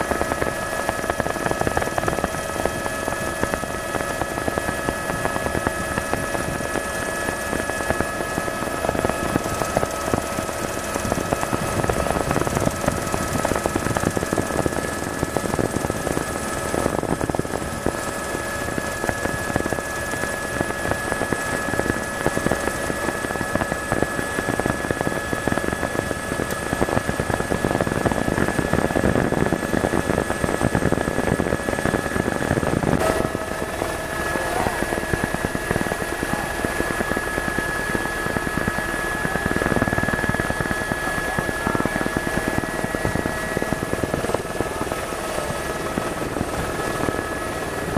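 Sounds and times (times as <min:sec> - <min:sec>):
helicopter engine whine: 0:00.0 - 0:47.9.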